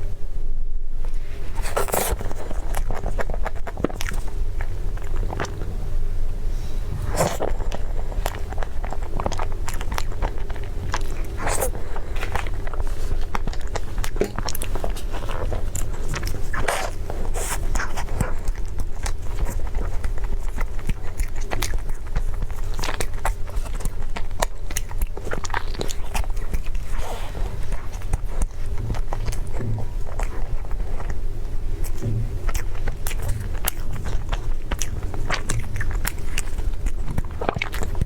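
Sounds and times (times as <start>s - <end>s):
low hum: 0.0s - 38.0s
person chewing food: 1.2s - 38.0s.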